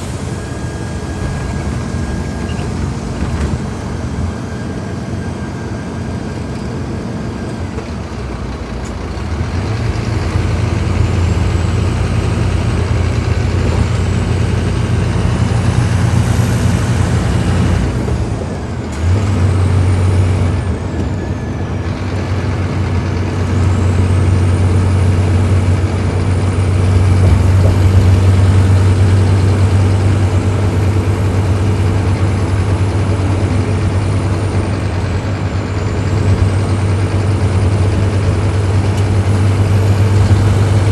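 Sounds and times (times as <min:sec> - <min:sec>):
bus diesel engine under load: 0:00.0 - 0:40.9.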